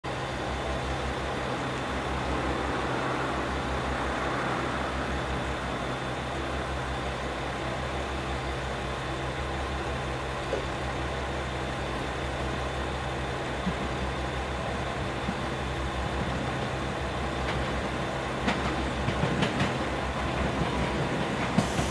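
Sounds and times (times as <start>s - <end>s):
machinery idling hum: 0.0s - 21.9s.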